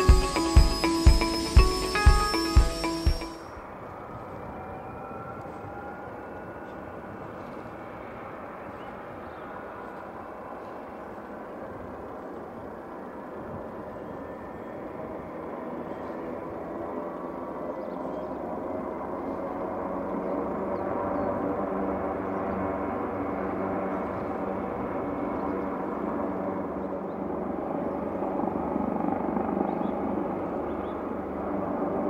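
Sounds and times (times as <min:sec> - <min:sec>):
helicopter rotor and engine noise: 0:00.0 - 0:32.0
helicopter turbine whine: 0:00.0 - 0:32.0.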